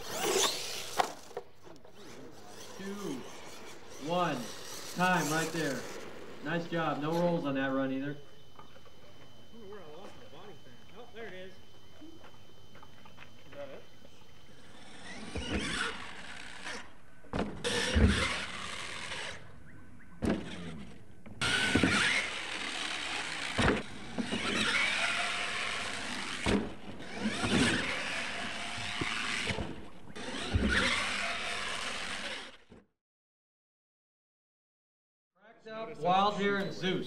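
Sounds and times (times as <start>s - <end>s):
toy truck motor whining: 0.0s - 11.1s, 11.7s - 19.6s, 20.3s - 32.7s.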